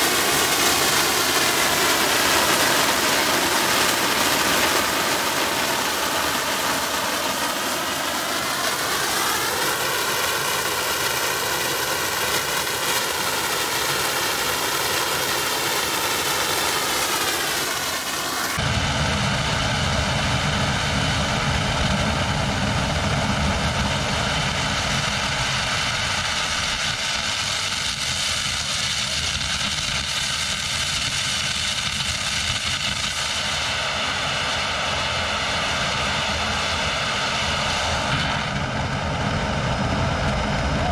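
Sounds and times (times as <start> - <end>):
blower whine: 0.0 - 40.9
burner flame rushing: 0.0 - 40.9.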